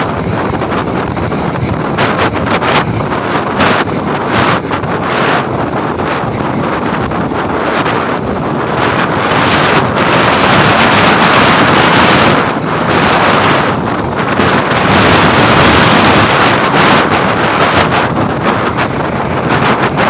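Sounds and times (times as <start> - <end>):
motorcycle and road noise: 0.0 - 20.0
wind buffeting microphone: 0.0 - 20.0.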